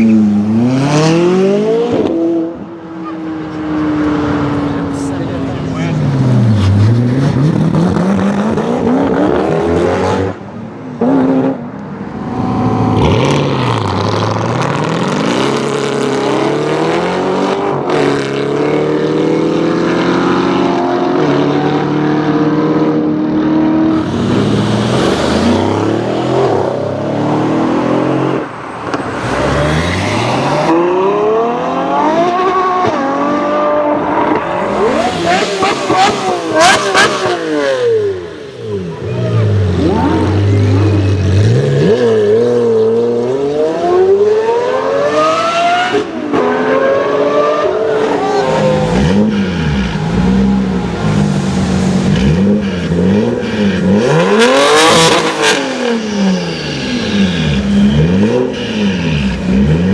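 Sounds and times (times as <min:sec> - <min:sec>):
supercar engines revving: 0:00.0 - 0:59.9.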